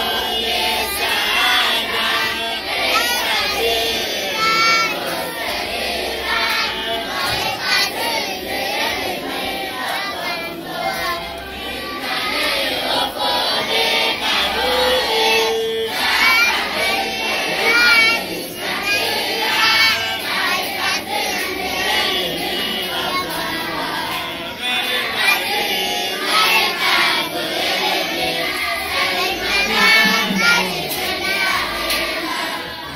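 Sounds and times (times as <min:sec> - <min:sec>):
schoolchildren singing together: 0:00.0 - 0:32.9.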